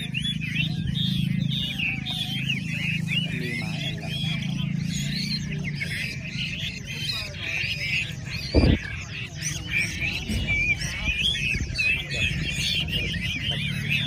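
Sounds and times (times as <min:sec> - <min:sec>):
chorus of birds singing: 0:00.0 - 0:14.0.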